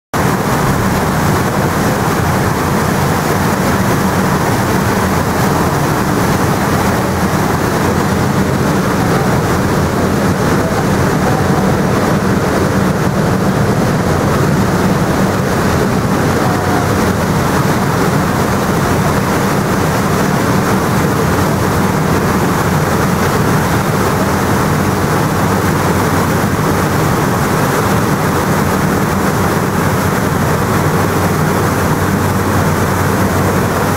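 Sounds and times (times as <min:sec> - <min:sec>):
boat engine droning: 0:00.1 - 0:33.9
rushing boat wake: 0:00.1 - 0:33.9.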